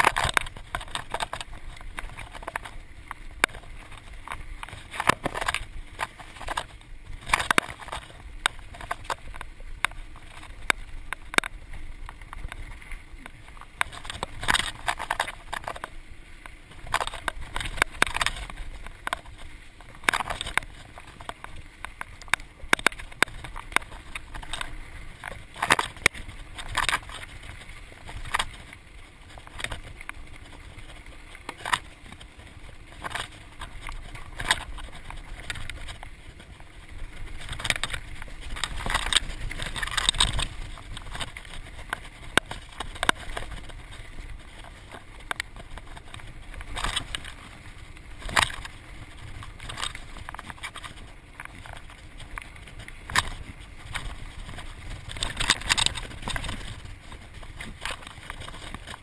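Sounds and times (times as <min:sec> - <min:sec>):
bike rattling and clanking: 0:00.0 - 0:59.0
bike tyres on dirt: 0:00.0 - 0:59.0
wind rumble on microphone: 0:00.0 - 0:59.0.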